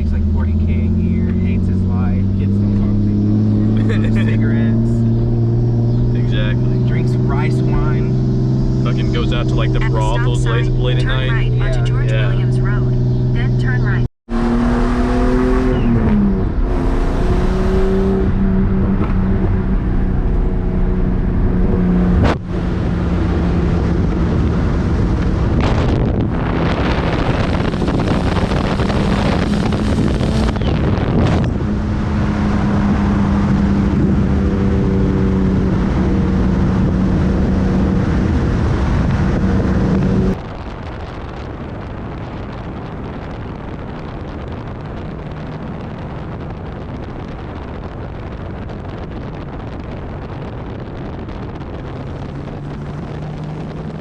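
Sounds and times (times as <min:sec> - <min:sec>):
car engine running: 0:00.0 - 0:54.0
wind and road noise: 0:00.0 - 0:54.0.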